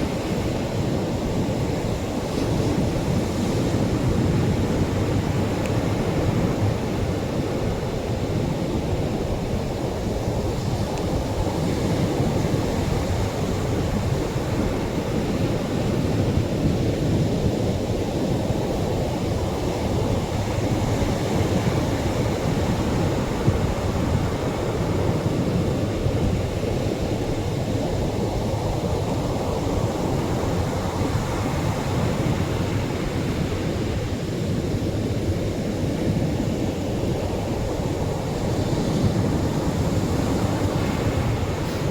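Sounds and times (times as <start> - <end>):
surf washing onto shore: 0.0 - 41.9.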